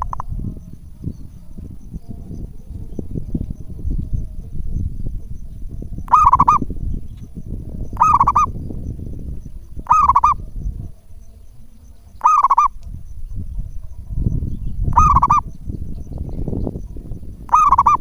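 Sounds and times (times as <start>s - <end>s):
dove cooing: 0.0s - 12.8s, 13.5s - 18.0s
low rumbling background noise: 0.0s - 18.0s.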